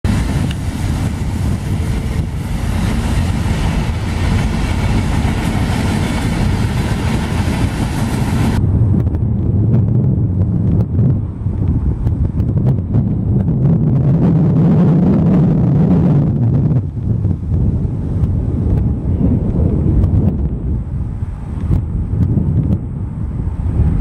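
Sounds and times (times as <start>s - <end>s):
distant train rumble: 0.0s - 24.0s
train wheels rushing on rail: 0.0s - 24.0s
wind on microphone: 0.0s - 24.0s.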